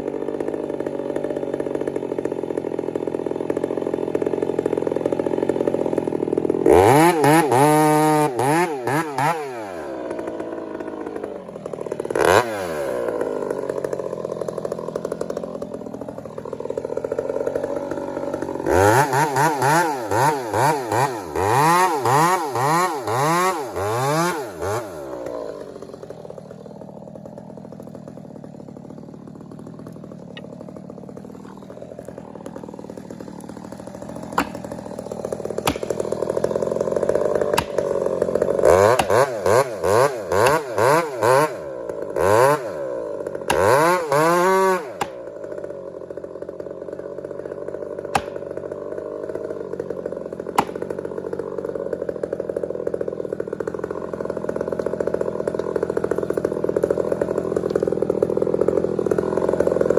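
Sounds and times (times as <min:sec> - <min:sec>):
chainsaw engine revving: 0:00.0 - 0:59.9.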